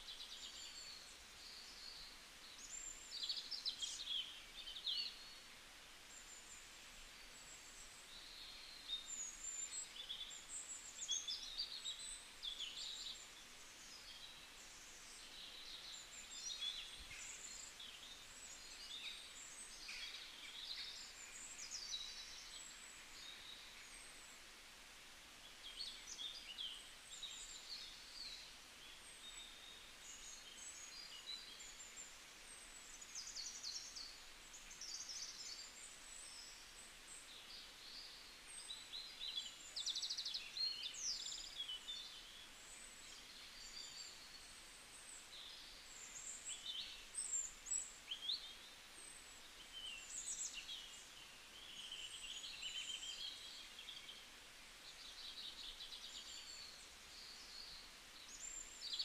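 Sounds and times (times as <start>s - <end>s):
faint steady hiss: 0.0s - 59.0s
small birds chirping: 0.0s - 59.0s.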